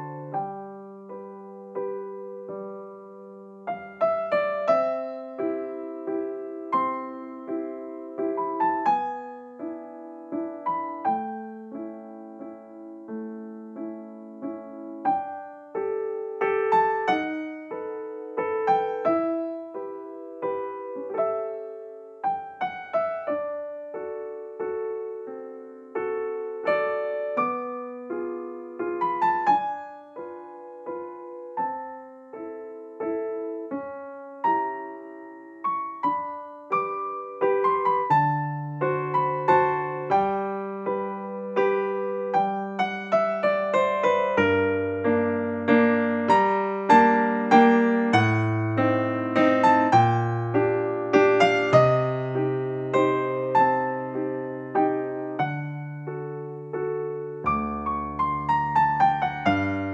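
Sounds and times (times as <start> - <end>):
gentle piano melody: 0.0 - 59.9.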